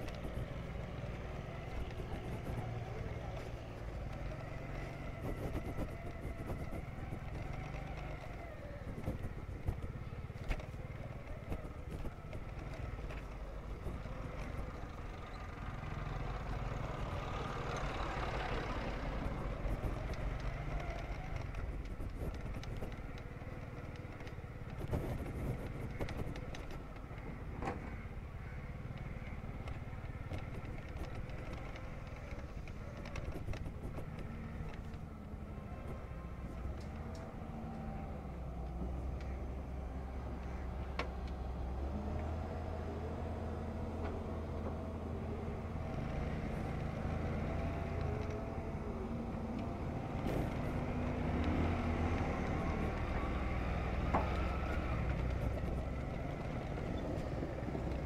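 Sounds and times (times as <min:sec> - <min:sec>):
heavy vehicle engines running: 0:00.0 - 0:58.0
truck passing: 0:00.0 - 0:58.0.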